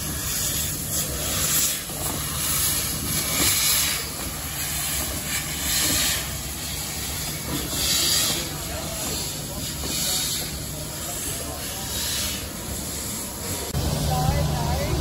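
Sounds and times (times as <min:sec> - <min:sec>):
low rumble of locomotive: 0:00.0 - 0:15.0
steam hissing: 0:00.0 - 0:15.0.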